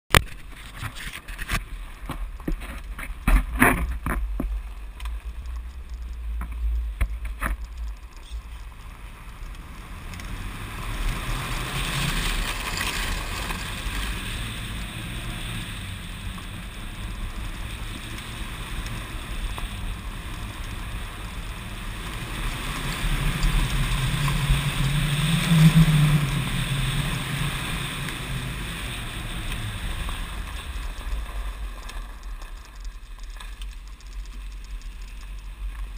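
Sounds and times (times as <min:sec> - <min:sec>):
car engine under load: 0:00.1 - 0:35.9
tyres hissing through gravel: 0:07.1 - 0:35.9.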